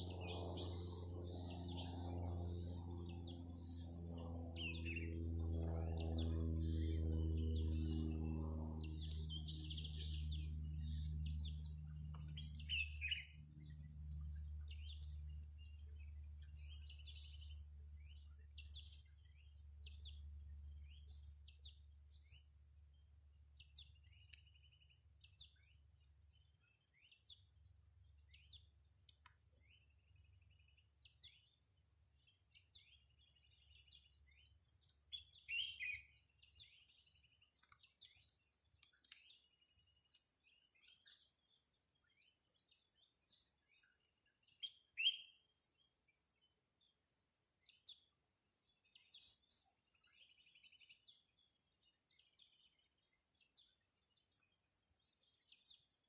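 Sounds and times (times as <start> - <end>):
low hum: 0.0 - 56.0
songbirds chirping: 0.0 - 56.0.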